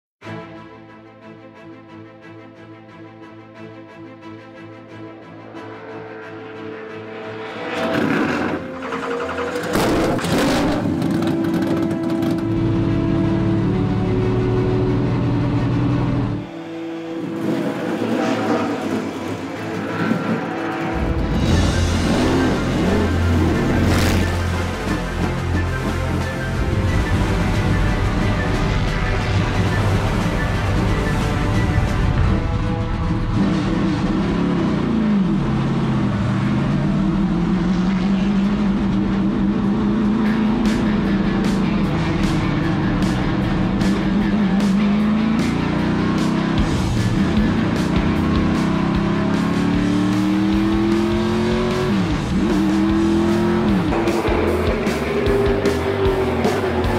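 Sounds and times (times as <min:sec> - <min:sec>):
race car engine running: 0:07.4 - 0:56.9.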